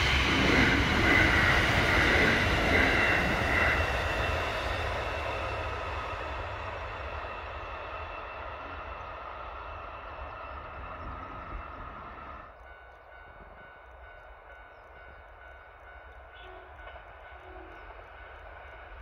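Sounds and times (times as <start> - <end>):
distant train noise: 0.0 - 19.0
electric train running with whine: 0.0 - 19.0.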